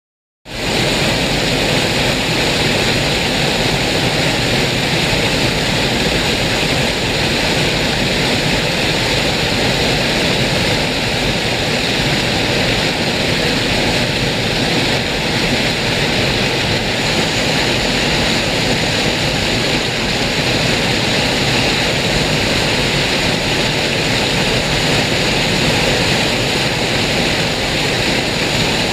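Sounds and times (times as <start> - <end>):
river floodwater rushing: 0.5 - 28.9.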